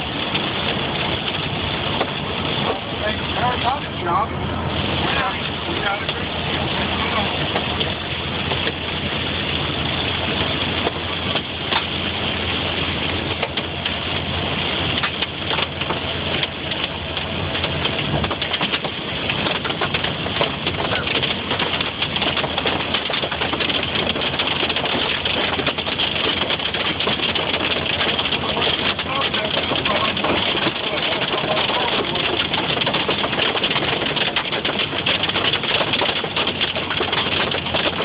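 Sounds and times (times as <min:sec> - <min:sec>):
car engine and road noise: 0:00.0 - 0:38.0
hail and rain on car roof: 0:00.0 - 0:38.0.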